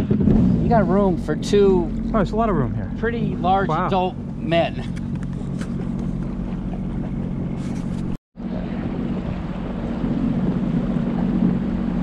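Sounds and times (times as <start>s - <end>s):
water washing along hull: 0.0s - 12.0s
watercraft engine humming: 0.0s - 12.0s.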